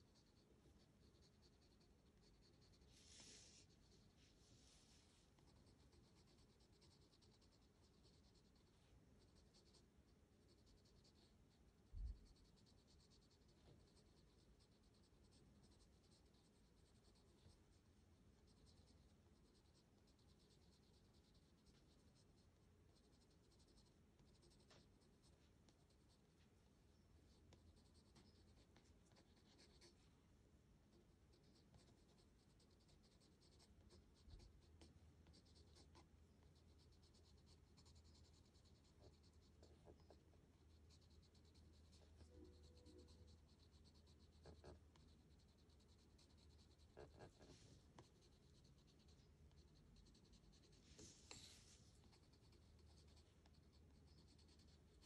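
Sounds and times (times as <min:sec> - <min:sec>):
pencil scratching on paper: 0:00.1 - 0:04.2, 0:05.0 - 0:17.8, 0:18.4 - 0:26.2, 0:27.3 - 0:30.0, 0:31.2 - 0:55.0.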